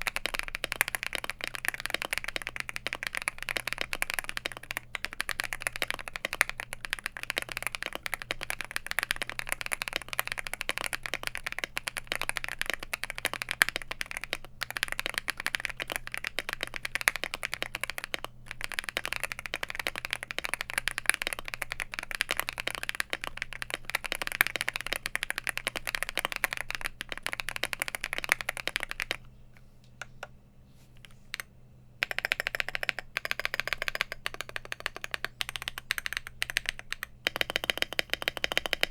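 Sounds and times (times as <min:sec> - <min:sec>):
mechanical keyboard typing: 0:00.0 - 0:29.3, 0:31.0 - 0:38.9.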